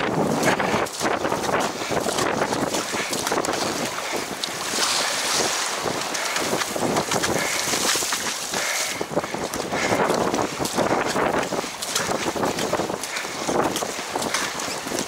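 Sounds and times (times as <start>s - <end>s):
choppy water splashing on hull: 0.0s - 15.0s
wind buffeting microphone: 0.0s - 15.0s.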